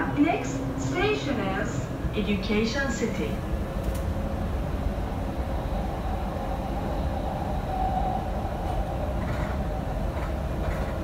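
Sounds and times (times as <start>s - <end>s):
constant hum: 0.0s - 11.0s
train wheels rumbling: 0.0s - 11.0s.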